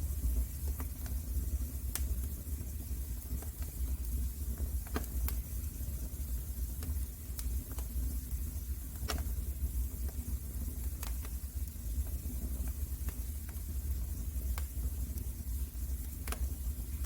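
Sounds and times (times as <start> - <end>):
fire crackles and pops: 0.0 - 17.0
low rumble of fire: 0.0 - 17.0.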